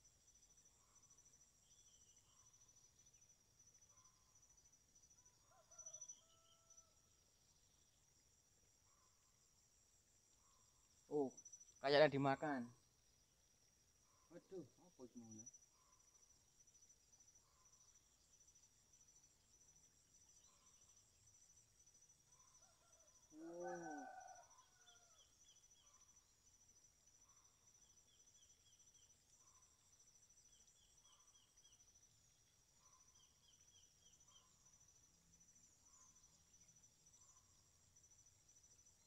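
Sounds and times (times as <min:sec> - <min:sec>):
crickets chirping: 0:00.0 - 0:39.0
high insect trill: 0:00.0 - 0:39.0.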